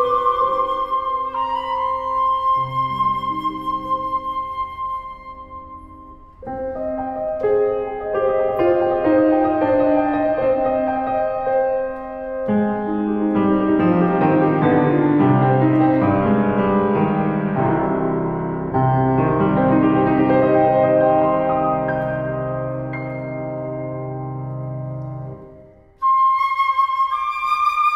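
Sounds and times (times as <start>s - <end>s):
classical piano playing: 0.0s - 27.9s.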